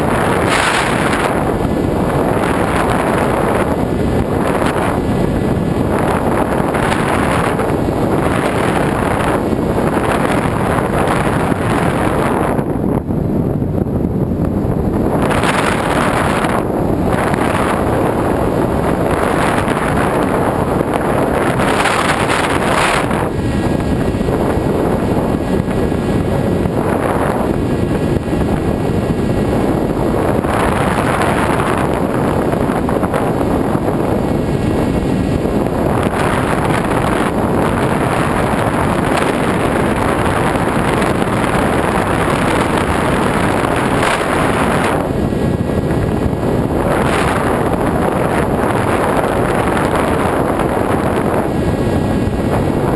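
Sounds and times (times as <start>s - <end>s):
loud wind noise: 0.0s - 52.9s.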